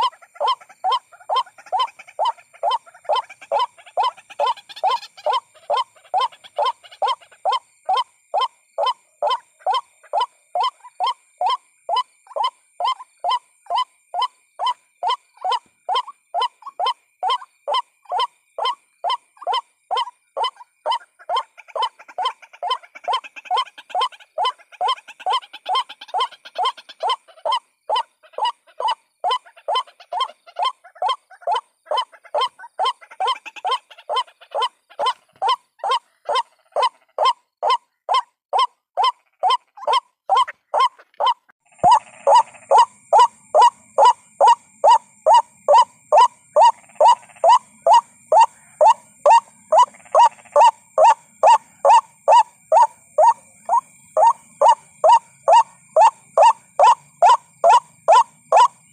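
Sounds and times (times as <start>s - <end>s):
waterhen call repeated: 0.0s - 58.8s.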